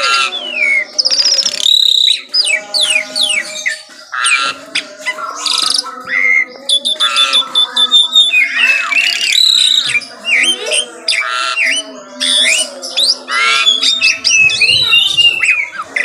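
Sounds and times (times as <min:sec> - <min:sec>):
bird chattering calls: 0:00.0 - 0:16.0
starling singing varied song: 0:00.0 - 0:16.0.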